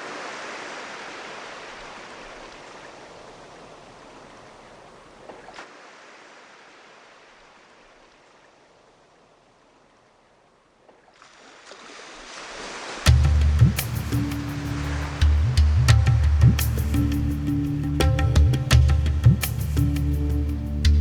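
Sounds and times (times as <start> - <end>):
wave washing up the shore: 0.0 - 8.6, 11.2 - 20.9.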